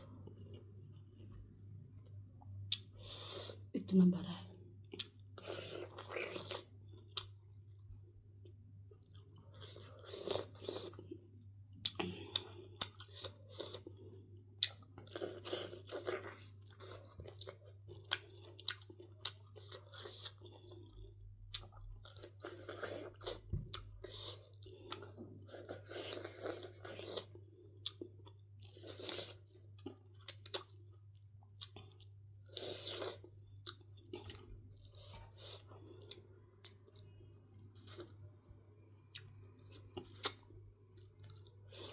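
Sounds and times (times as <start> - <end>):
person chewing: 0.0 - 3.7, 4.8 - 38.3, 39.0 - 41.9.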